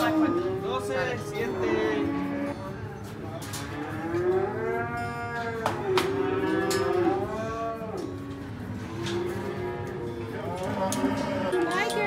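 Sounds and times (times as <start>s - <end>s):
cattle mooing: 0.0s - 2.8s, 3.4s - 12.0s.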